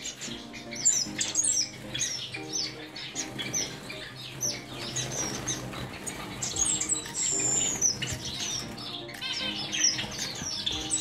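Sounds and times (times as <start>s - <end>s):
finches chirping: 0.0s - 11.0s
wings fluttering: 1.0s - 11.0s.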